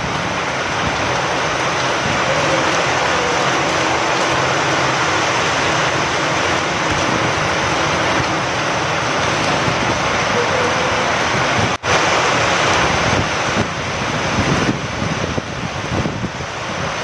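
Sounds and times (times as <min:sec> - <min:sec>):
steady rain hiss: 0:00.0 - 0:17.0
wind: 0:00.0 - 0:17.0.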